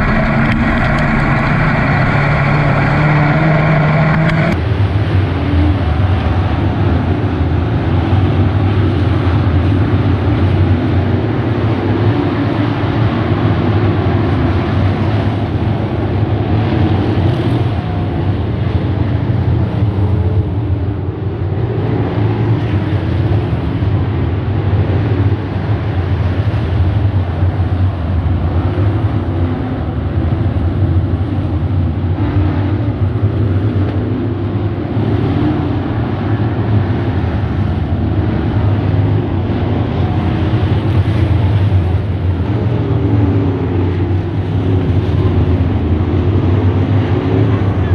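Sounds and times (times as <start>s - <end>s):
race car engines running: 0.0s - 47.9s.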